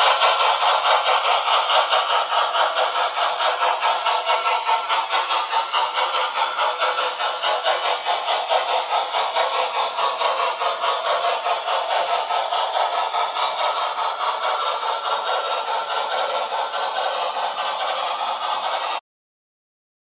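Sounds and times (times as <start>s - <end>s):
model train rattling on track: 0.0s - 19.0s.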